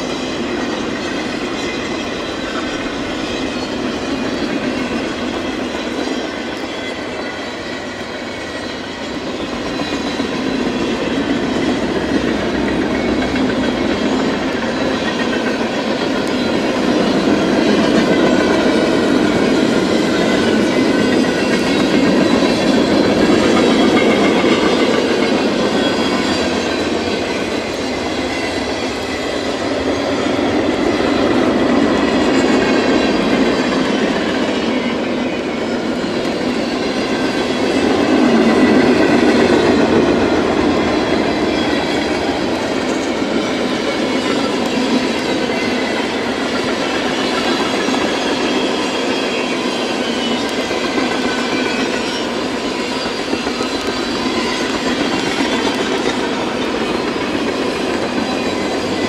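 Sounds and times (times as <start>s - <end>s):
freight train wheels clattering: 0.0s - 59.0s.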